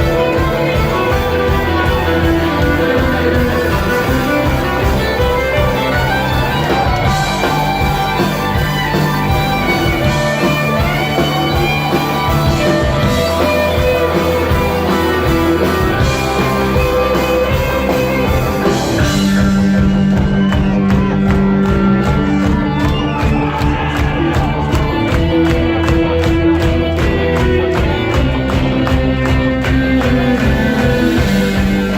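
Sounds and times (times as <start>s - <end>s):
rock band with guitar: 0.0s - 31.9s.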